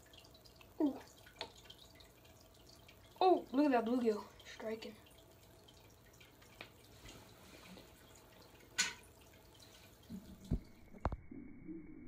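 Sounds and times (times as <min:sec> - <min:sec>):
faint dripping water: 0:00.0 - 0:12.0.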